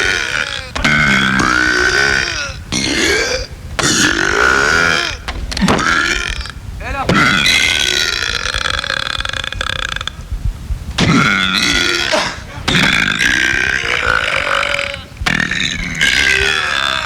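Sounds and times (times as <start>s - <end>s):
person burping loudly: 0.0s - 10.2s, 11.0s - 17.0s.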